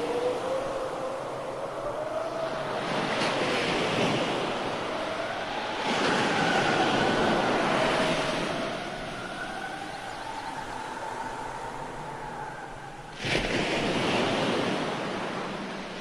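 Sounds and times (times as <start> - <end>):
faint wavering tones: 0.0 - 13.2
surf-like rushing: 0.0 - 16.0.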